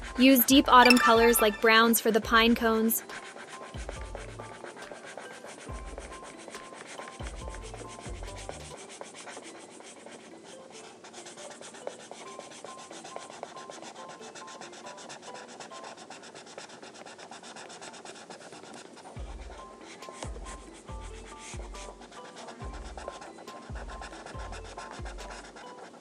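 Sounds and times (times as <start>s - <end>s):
marker rubbing on paper: 1.6s - 26.0s.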